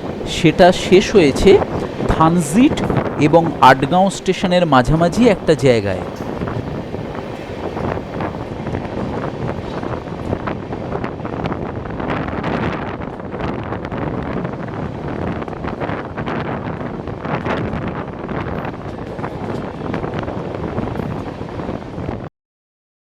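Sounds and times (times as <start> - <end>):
moving train running noise: 0.0 - 22.3
wind buffeting microphone: 0.0 - 22.3.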